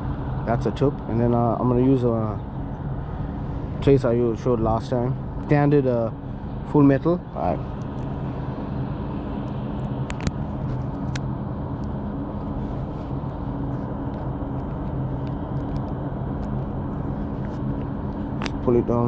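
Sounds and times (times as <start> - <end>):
low background hum and rush: 0.0 - 19.0.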